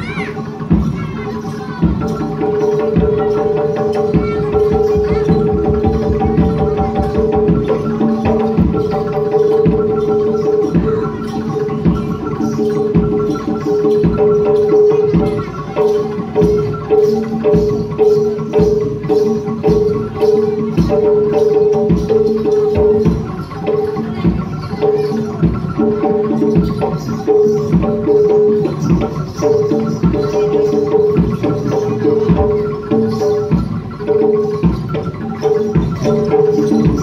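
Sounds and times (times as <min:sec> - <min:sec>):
hand drums: 0:00.0 - 0:37.0
struck metal percussion: 0:00.0 - 0:37.0.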